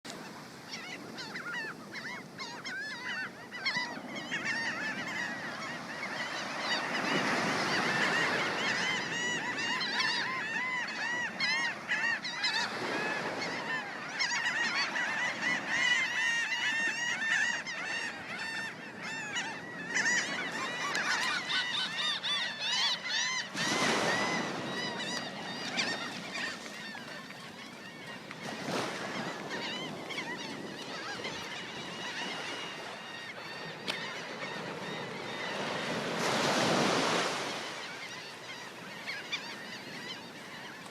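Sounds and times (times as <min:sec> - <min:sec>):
flock of birds calling: 0:00.1 - 0:40.9.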